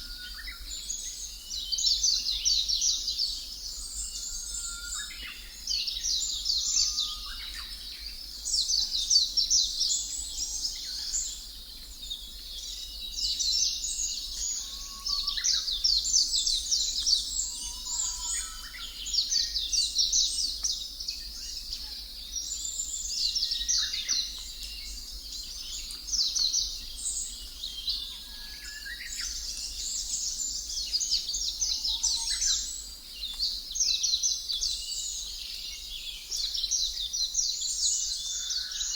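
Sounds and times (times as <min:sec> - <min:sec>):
small birds chirping: 0:05.0 - 0:38.9.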